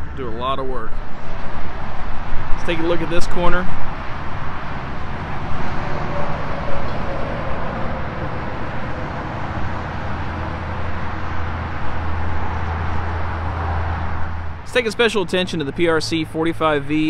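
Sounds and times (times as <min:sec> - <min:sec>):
low engine hum: 0:00.0 - 0:17.0
traffic noise: 0:00.0 - 0:17.0.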